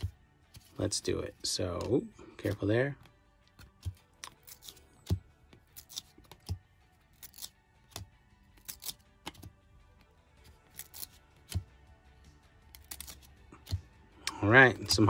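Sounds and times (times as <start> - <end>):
cards swishing and clicking: 0.0 - 11.7, 12.7 - 14.0.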